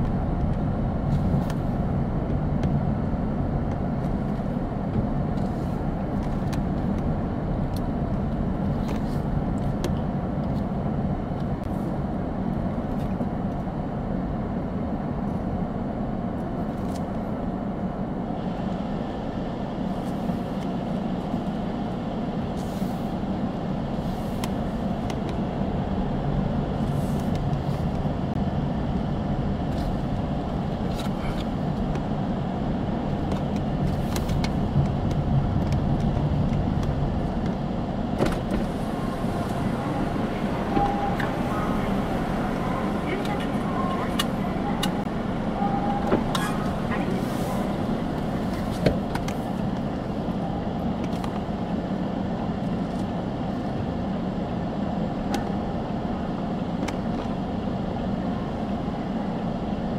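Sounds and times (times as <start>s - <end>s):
car driving slowly: 0.0s - 59.9s.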